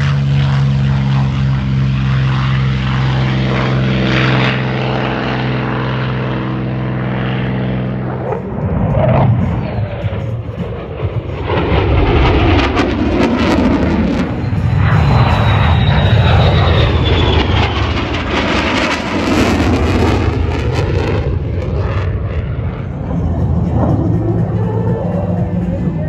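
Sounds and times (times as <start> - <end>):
high whine falling in pitch: 0.0 - 26.0
jet engine roaring: 0.0 - 26.0.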